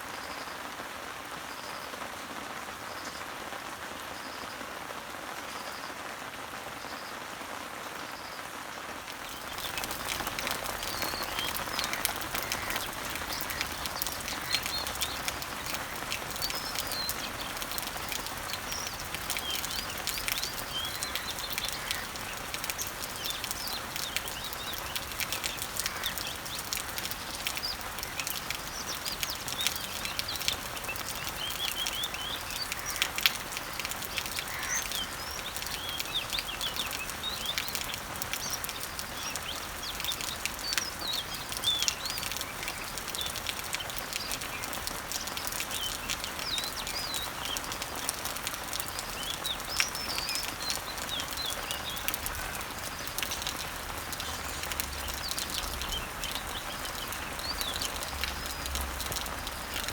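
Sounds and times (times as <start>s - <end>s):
rain pattering on leaves: 0.0s - 59.9s
birds chirping: 9.1s - 59.9s.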